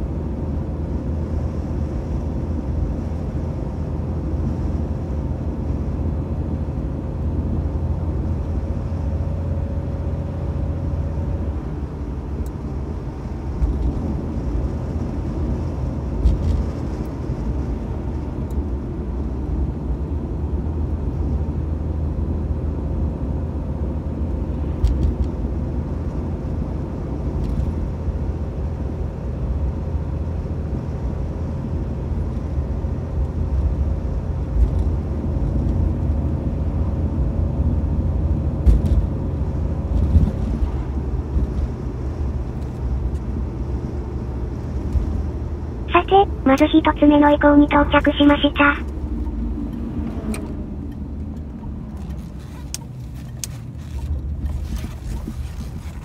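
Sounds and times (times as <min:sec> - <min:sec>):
car engine and tyre noise: 0:00.0 - 0:46.4, 0:48.8 - 0:56.0.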